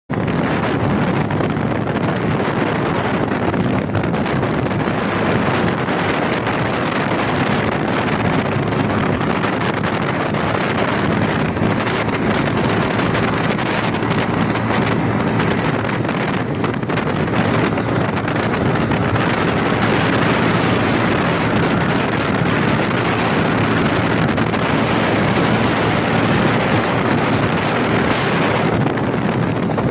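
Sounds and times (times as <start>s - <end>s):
motorcycle engine running: 0.1s - 29.9s.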